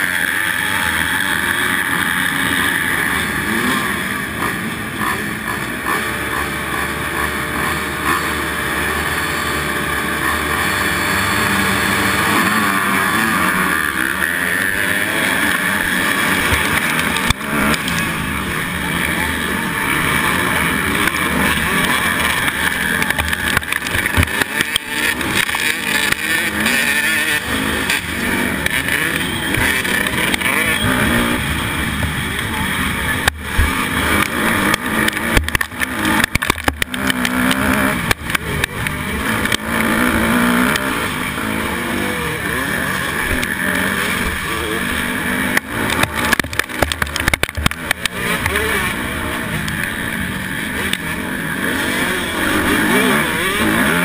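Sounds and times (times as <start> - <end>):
dirt bike engine revving: 0.0 - 54.0
other dirt bikes racing: 0.0 - 54.0.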